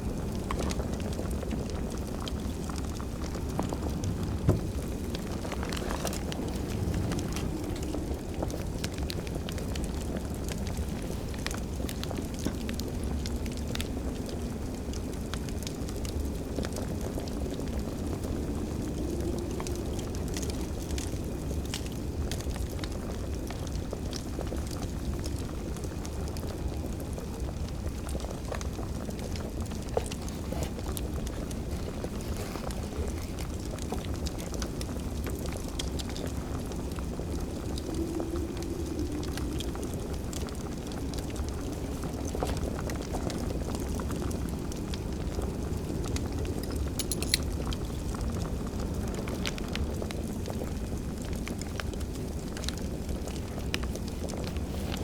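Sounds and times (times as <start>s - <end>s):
fire crackling with pops: 0.0s - 55.0s.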